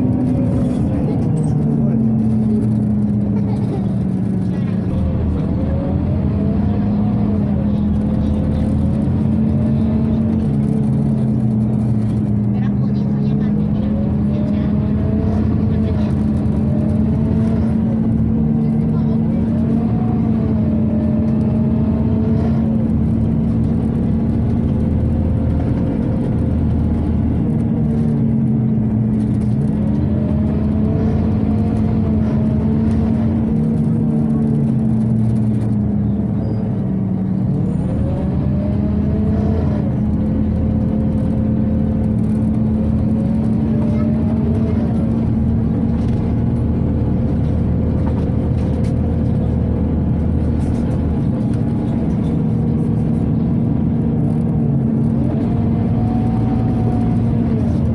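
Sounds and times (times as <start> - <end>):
bus engine whine: 0.0 - 57.9.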